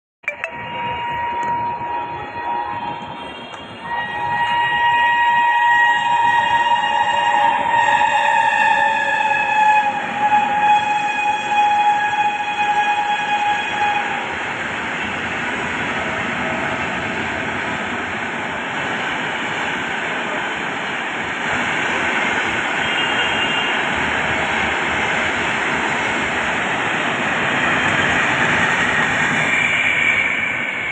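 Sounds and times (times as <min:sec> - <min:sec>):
train rushing past: 0:00.5 - 0:30.9.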